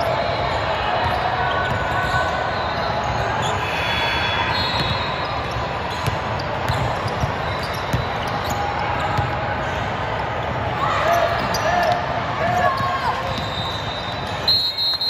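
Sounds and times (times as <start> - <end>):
crowd and player chatter: 0.0 - 15.0.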